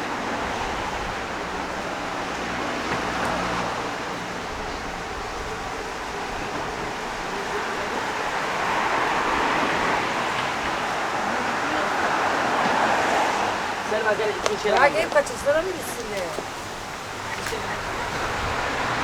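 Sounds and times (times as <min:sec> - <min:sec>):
traffic rushing: 0:00.0 - 0:19.0
vehicle passing: 0:00.0 - 0:19.0.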